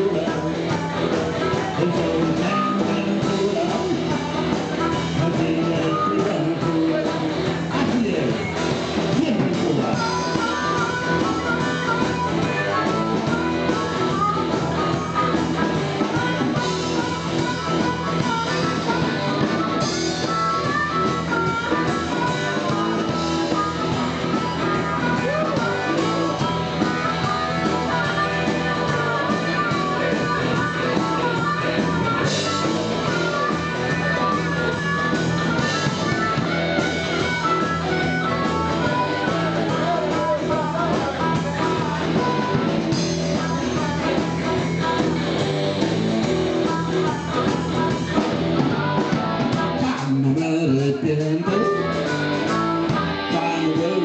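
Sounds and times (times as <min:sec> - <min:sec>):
blues-rock band playing: 0:00.0 - 0:54.0
guitar playing: 0:00.0 - 0:54.0.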